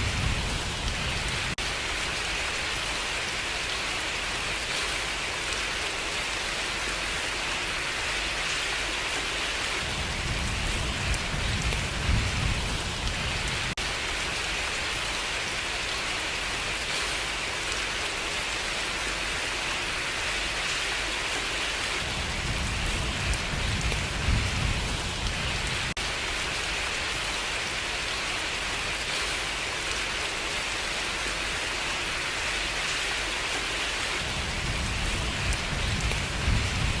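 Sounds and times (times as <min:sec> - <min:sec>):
rain pattering: 0:00.0 - 0:37.0.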